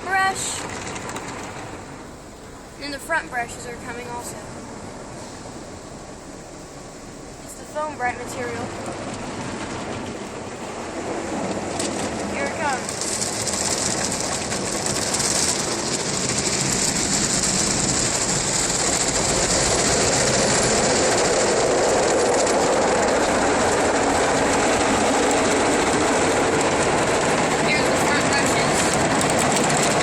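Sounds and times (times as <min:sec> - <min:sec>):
car wash brushes and spray: 0:00.0 - 0:30.0.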